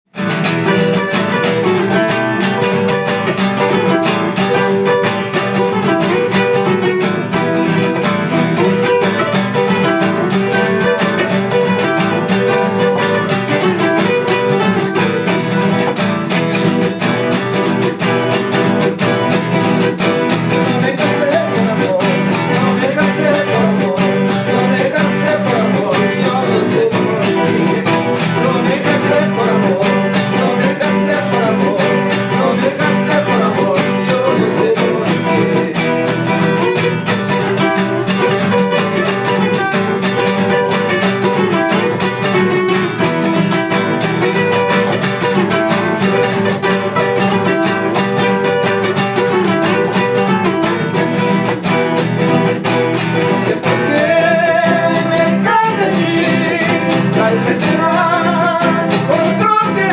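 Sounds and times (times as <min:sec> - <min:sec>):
guitar plucking a tune: 0:00.1 - 0:59.9.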